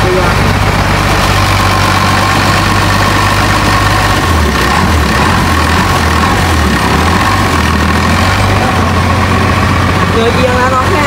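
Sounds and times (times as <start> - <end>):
boat engine droning: 0.0 - 11.0
wind: 0.0 - 11.0.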